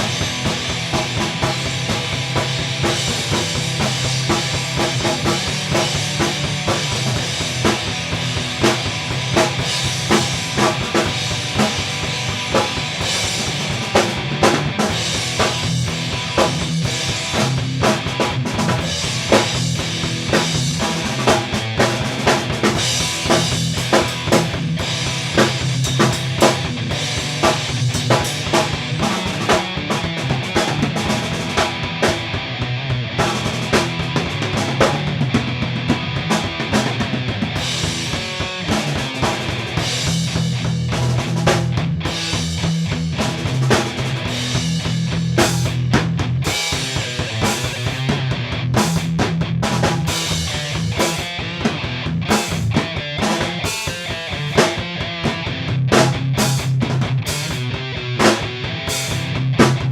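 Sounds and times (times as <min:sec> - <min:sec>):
drum kit beat: 0:00.0 - 0:59.9.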